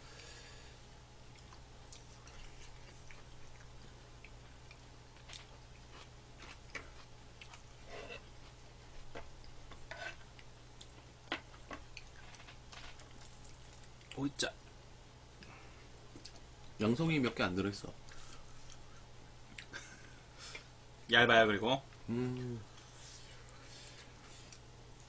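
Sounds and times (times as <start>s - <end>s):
low steady hum: 0.0s - 25.0s
soft chewing: 1.2s - 14.8s, 15.4s - 16.8s, 18.0s - 20.7s, 21.9s - 25.0s.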